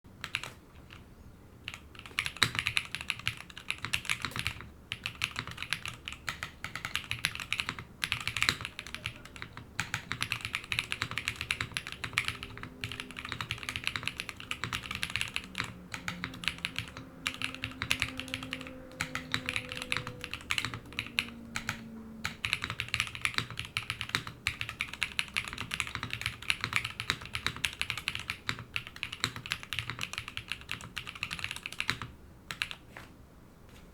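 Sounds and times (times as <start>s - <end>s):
mechanical keyboard typing: 0.2s - 32.8s.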